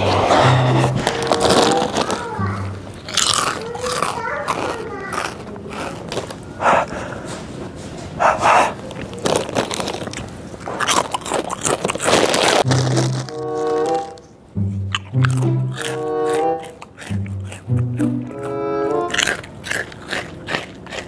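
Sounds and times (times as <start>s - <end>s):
person chewing potato chips: 0.0s - 21.0s.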